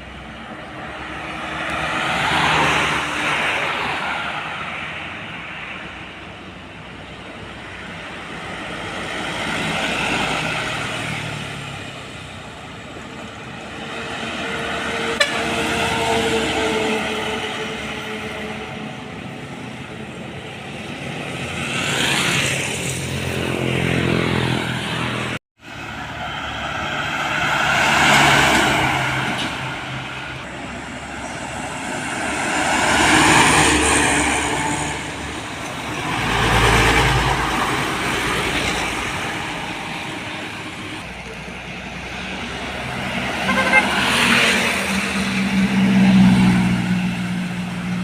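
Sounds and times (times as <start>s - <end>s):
vehicles passing by: 0.0s - 48.0s.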